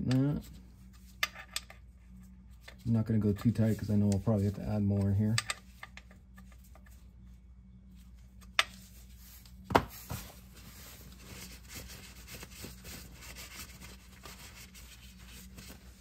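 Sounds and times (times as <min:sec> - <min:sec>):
rubbing and shuffling: 0:00.4 - 0:16.0.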